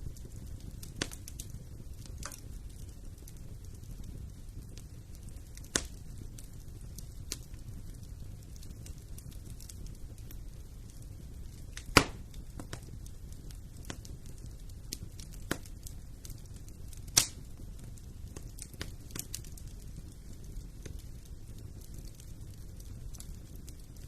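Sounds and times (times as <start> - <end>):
fire crackling in fireplace: 0.0 - 24.0
loud sharp pops from fire: 0.0 - 24.0.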